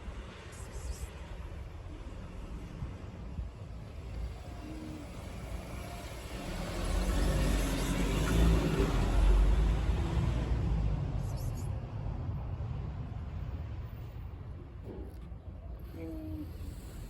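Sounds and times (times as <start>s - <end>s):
road vehicle passing rumble: 0.0s - 17.0s.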